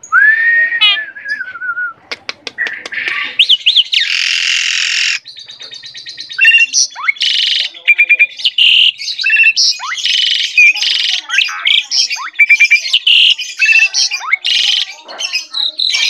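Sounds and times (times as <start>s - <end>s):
starling singing: 0.0s - 16.0s.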